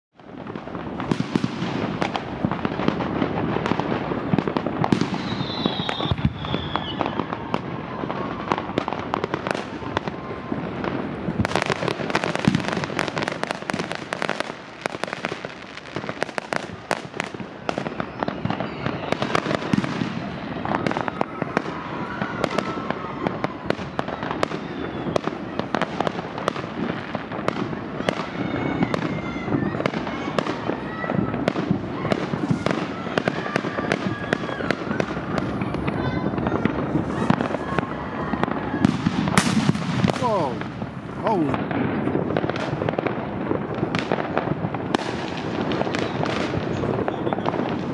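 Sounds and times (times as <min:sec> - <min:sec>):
fireworks bangs and crackling: 0:00.1 - 0:47.9
firework whistles: 0:00.2 - 0:47.9.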